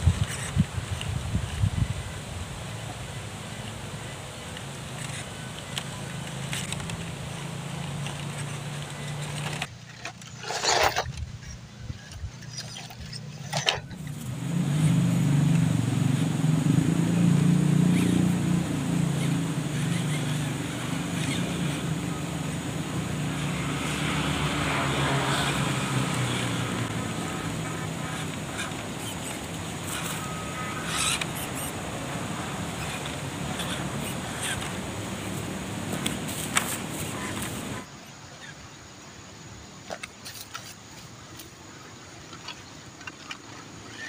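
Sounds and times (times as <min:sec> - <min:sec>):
electric motors and gear drives whirring: 0:00.0 - 0:38.5.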